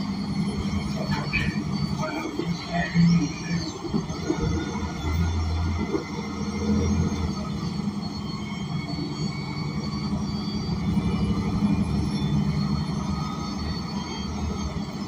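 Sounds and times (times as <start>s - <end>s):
bus engine droning: 0.0s - 15.0s
ride noise inside bus: 0.0s - 15.0s.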